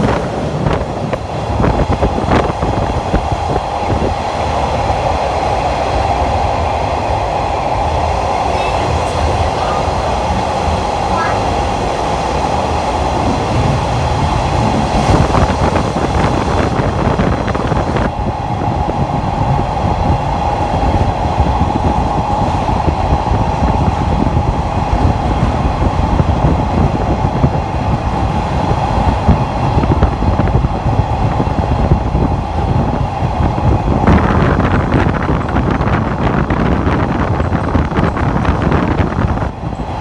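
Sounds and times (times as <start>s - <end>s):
constant drone: 0.0s - 40.0s
train wheels rumbling on rails: 0.0s - 40.0s.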